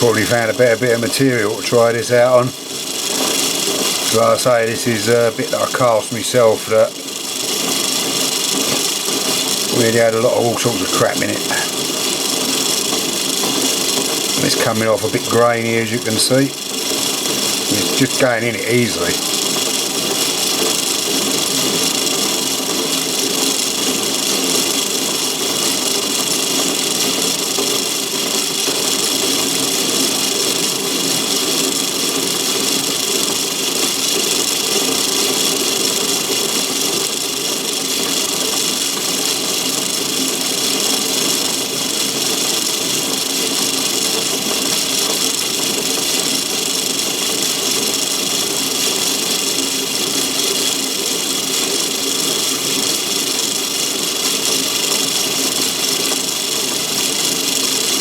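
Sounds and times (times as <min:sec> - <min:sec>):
lathe running: 0:00.0 - 0:58.0.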